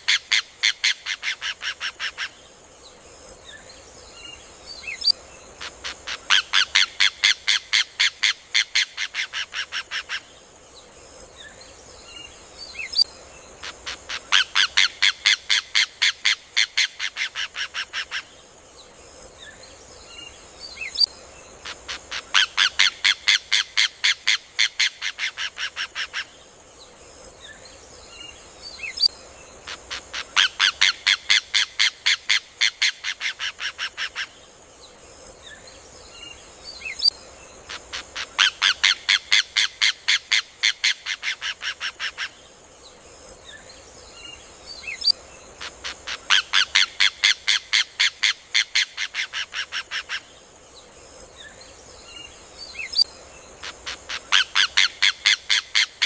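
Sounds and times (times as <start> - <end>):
faint bird chirps: 0.0 - 40.8, 41.8 - 48.9.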